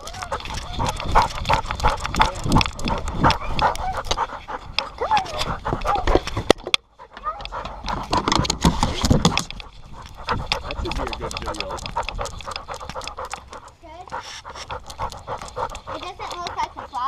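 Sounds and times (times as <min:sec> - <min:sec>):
dog panting rapidly: 0:00.0 - 0:17.0.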